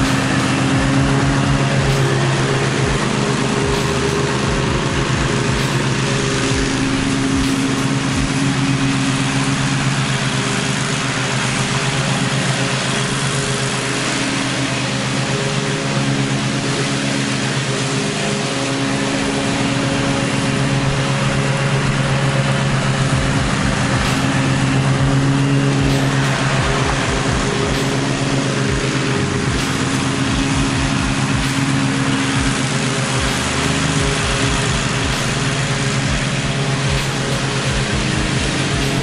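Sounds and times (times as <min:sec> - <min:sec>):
lawn mower engine running: 0:00.0 - 0:39.0.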